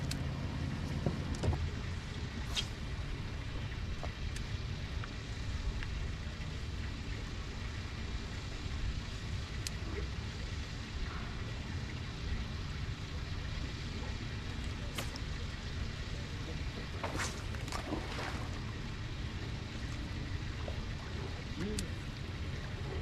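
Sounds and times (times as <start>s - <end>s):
water lapping around boat: 0.0s - 23.0s.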